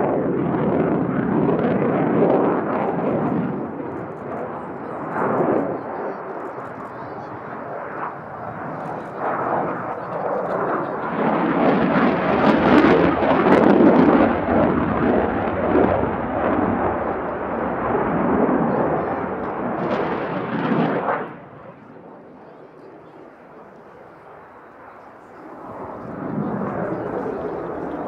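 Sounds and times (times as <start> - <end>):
loud jet engine noise: 0.0 - 28.0.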